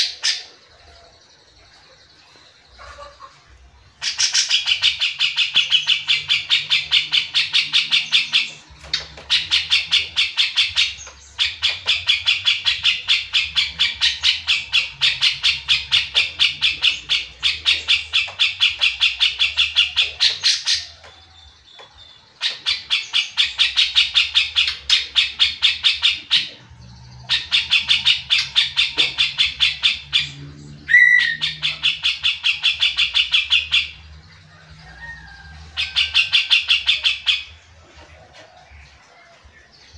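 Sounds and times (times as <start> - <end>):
bird singing fast repeated notes: 0.0 - 34.5, 35.8 - 37.8.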